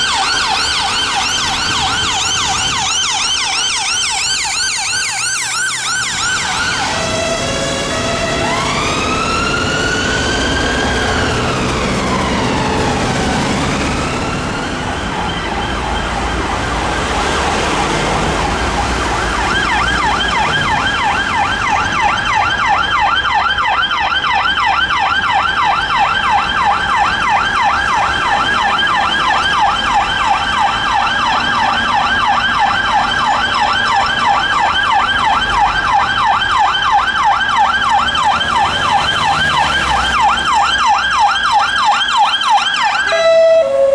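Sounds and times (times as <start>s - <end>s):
ambulance siren wailing: 0.0s - 43.9s
police siren fast yelp: 0.0s - 43.9s.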